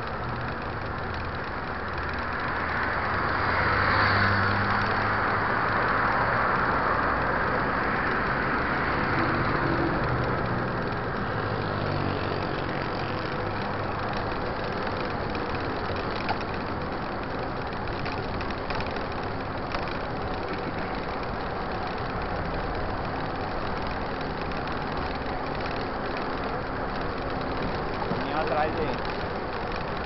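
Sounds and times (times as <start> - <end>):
car engines: 0.0 - 30.0
road and traffic noise: 0.0 - 30.0.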